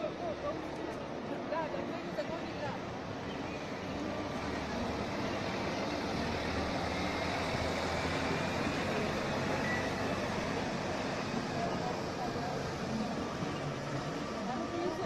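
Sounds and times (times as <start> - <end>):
tram rolling on rails: 0.0 - 15.0.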